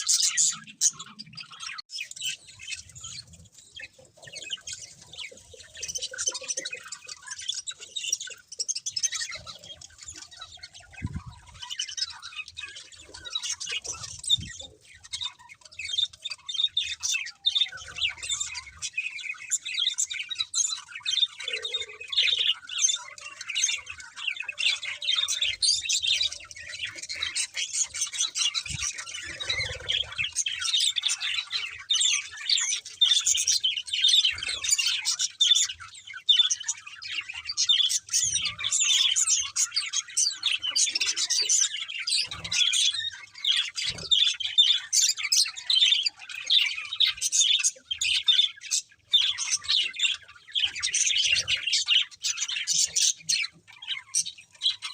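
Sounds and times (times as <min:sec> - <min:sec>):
budgerigars chirping and squawking: 0:00.0 - 0:54.9.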